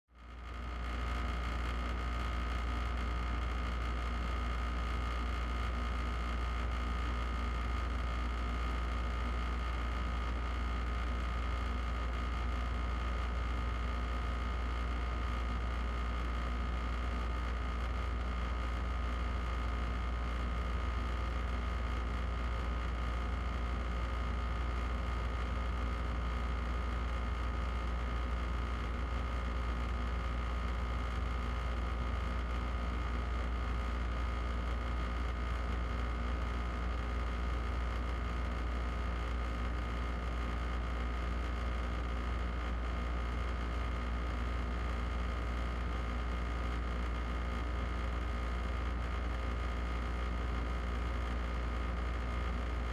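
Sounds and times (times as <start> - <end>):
faint steady whine: 0.2 - 52.9.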